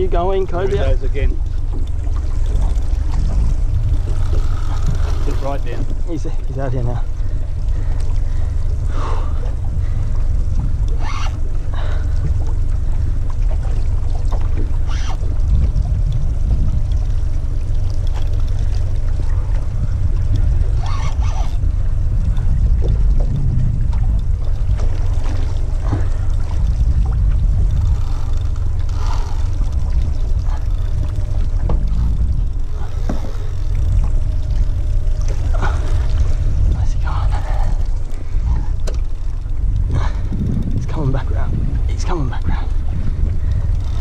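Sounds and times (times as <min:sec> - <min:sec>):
water lapping around hull: 0:00.0 - 0:44.0
wind buffeting microphone: 0:00.0 - 0:44.0.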